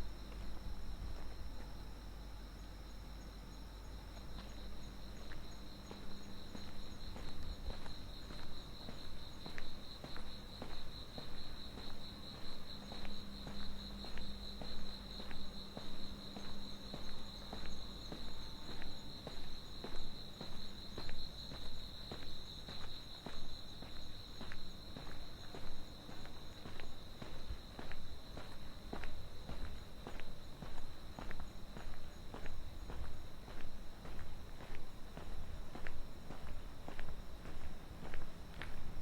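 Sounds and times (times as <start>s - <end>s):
footsteps walking: 4.2s - 39.0s.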